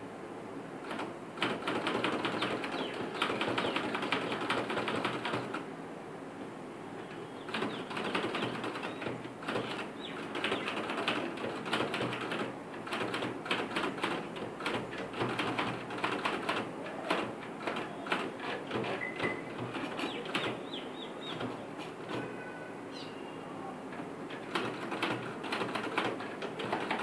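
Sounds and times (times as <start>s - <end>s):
manual typewriter typing: 0.8s - 5.6s, 7.5s - 20.6s, 21.2s - 22.4s, 23.9s - 27.0s.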